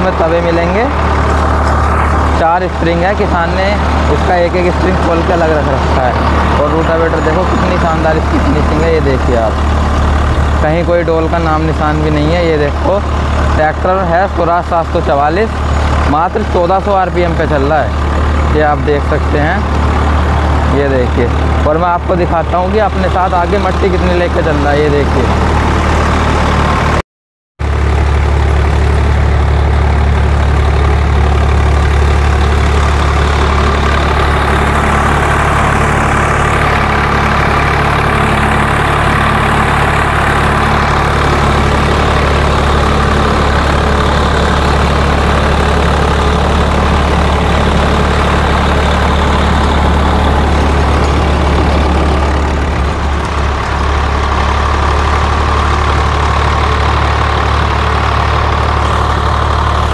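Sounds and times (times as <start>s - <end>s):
rotavator tilling hard soil: 0.0s - 23.9s, 27.7s - 59.9s
tractor diesel engine running: 0.0s - 27.0s, 27.6s - 59.9s.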